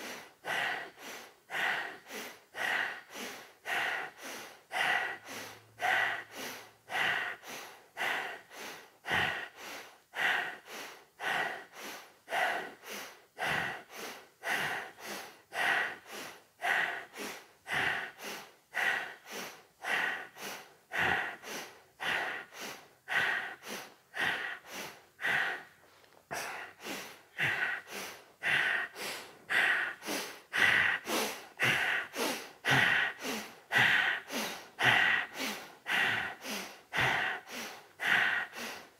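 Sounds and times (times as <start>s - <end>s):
forceful rhythmic breathing: 0.0s - 38.9s.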